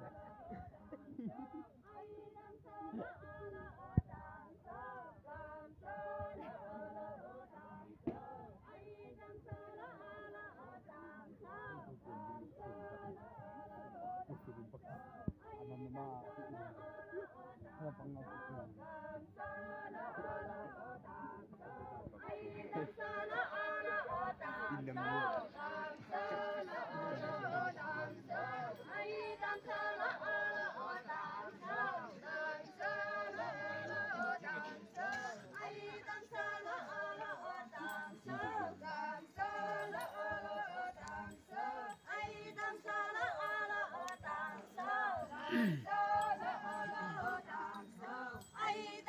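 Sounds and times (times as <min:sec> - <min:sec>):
group of women singing: 0:00.0 - 0:49.0.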